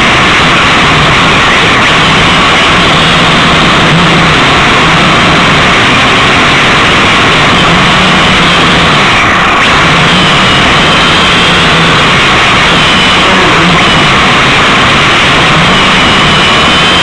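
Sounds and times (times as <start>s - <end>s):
drone propellers whirring: 0.0s - 17.0s.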